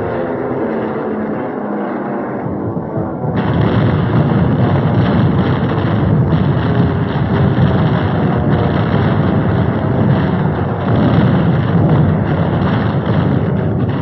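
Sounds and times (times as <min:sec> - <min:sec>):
aircraft engines droning: 0:00.0 - 0:14.0.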